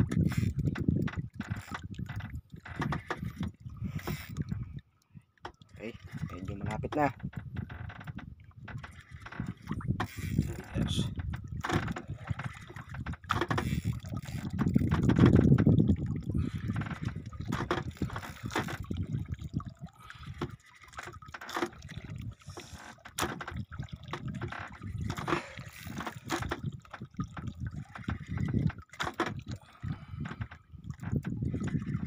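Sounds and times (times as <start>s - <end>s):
water lapping against boat hull: 0.0s - 32.0s.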